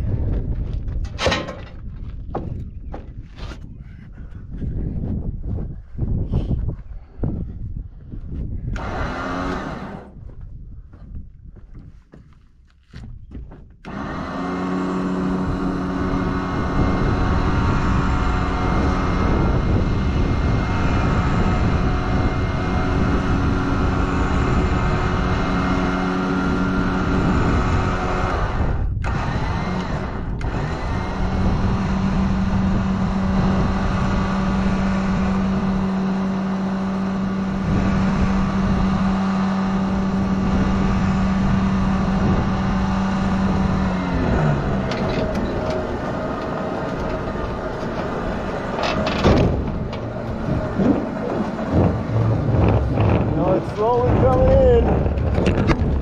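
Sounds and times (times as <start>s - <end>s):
engine running steadily: 0.0s - 11.0s, 11.6s - 56.0s.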